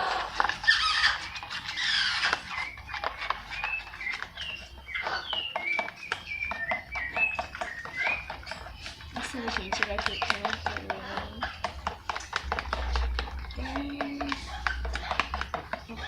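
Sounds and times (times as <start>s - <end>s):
high squeaks: 0.0s - 16.0s.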